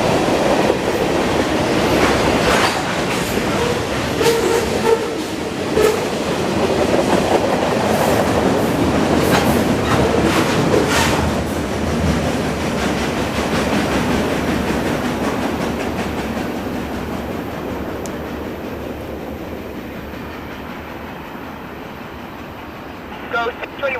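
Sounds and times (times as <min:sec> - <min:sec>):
train rumble: 0:00.0 - 0:23.9
train wheels clattering over rail joints: 0:00.1 - 0:22.6.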